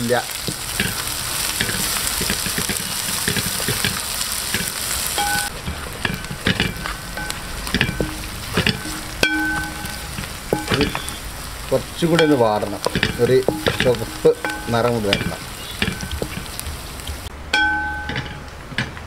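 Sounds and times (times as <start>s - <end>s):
aromatics sizzling in hot oil: 0.0s - 18.2s.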